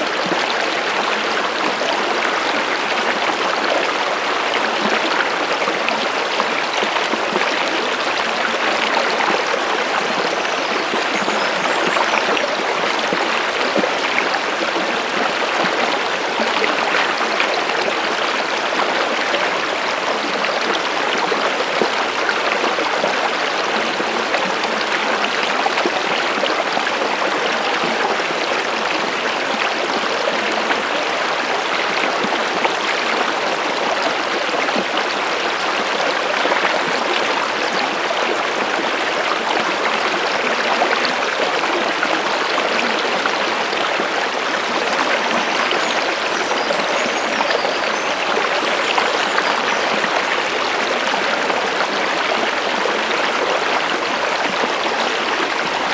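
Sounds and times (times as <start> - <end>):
stream water babbling: 0.0 - 55.9.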